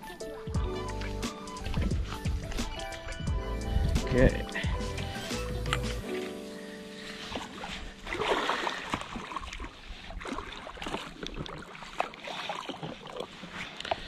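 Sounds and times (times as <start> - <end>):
water lapping around boat: 0.0 - 14.0.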